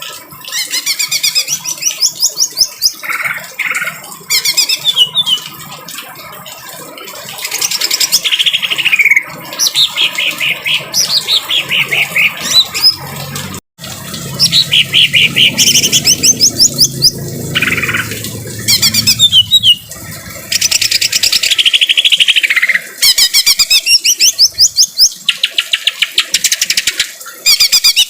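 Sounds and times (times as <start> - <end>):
bird singing rapid high phrases: 0.5 - 5.6, 7.4 - 13.1, 14.3 - 28.0.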